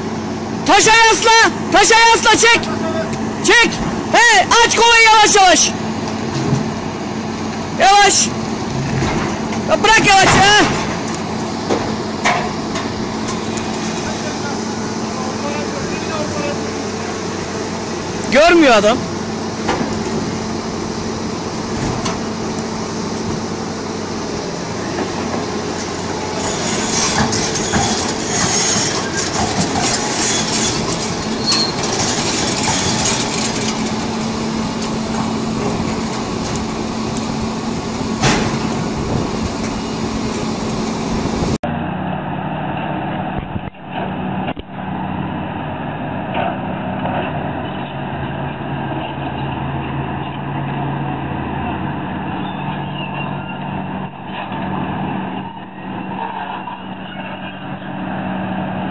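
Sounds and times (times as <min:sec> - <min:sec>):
excavator working: 0:00.0 - 0:58.9
steady engine hum: 0:00.0 - 0:58.9.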